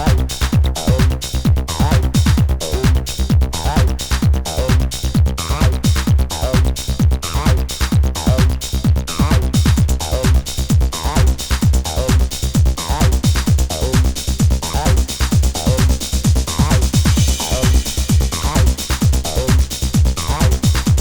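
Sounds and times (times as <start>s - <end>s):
kick drum: 0.0s - 21.0s.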